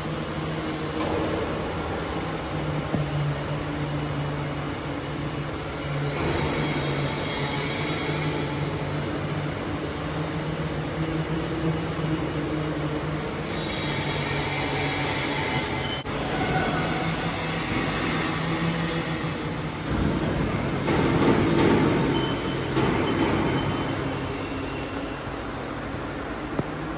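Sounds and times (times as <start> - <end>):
machinery humming: 0.0 - 26.9.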